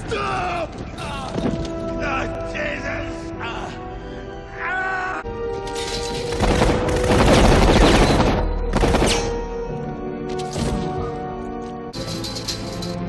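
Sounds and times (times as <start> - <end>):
orchestral music: 0.0 - 13.0.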